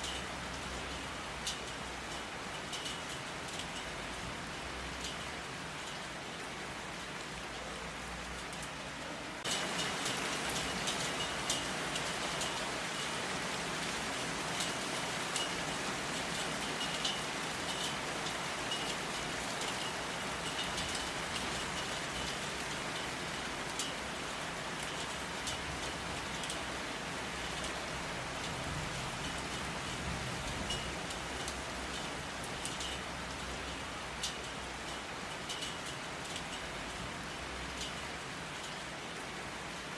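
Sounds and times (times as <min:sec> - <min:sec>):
raindrops tapping: 0:00.0 - 0:39.9
steady rain falling: 0:00.0 - 0:39.9.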